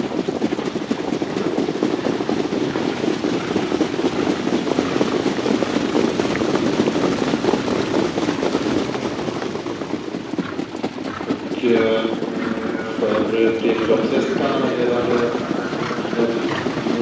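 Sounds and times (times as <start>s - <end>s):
hoofbeats and wheels rumbling: 0.0s - 17.0s.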